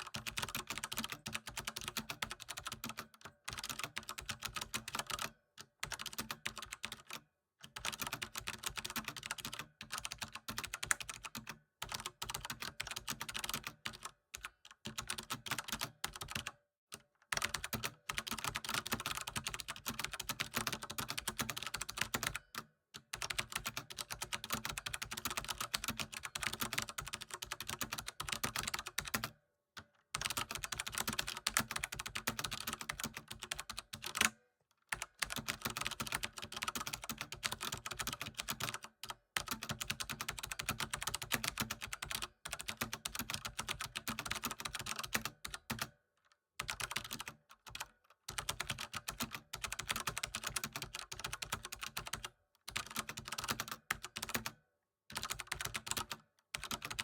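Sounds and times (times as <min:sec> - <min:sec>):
fast typing on computer keyboard: 0:00.0 - 0:29.4, 0:30.1 - 0:46.0, 0:46.6 - 0:57.0.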